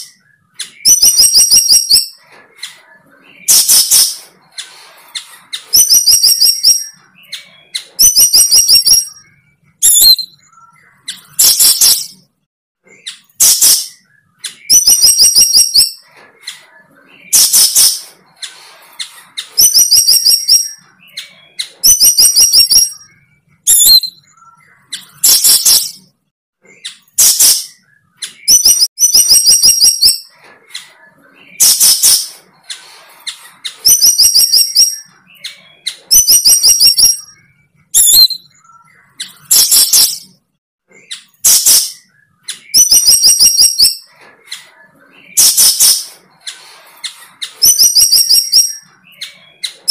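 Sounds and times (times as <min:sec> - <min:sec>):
bird chirping trills: 0:00.0 - 0:49.9.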